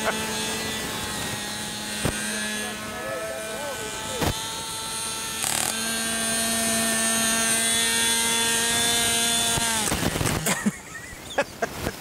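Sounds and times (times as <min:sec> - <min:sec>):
model aircraft motor whining: 0:00.0 - 0:11.1.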